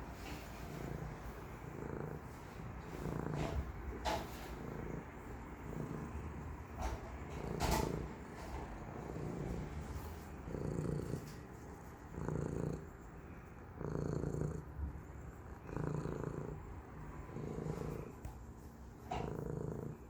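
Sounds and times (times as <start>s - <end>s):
cat purring: 0.0s - 18.4s, 19.1s - 20.0s.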